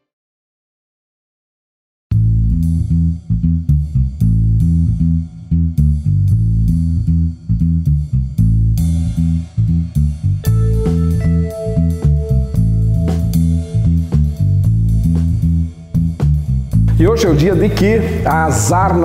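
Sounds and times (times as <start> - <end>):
instrumental theme music: 2.1 - 19.0.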